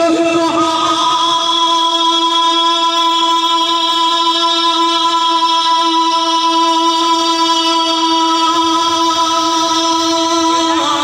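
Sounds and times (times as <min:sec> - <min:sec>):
man singing long note over loudspeaker: 0:00.0 - 0:11.0.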